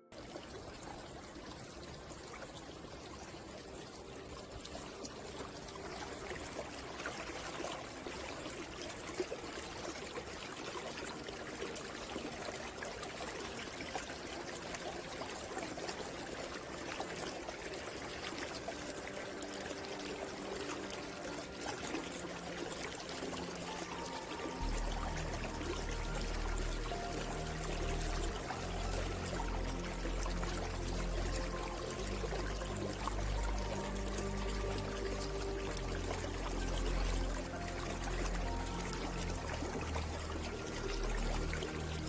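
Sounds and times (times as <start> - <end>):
stream flowing over rocks: 0.0 - 42.0.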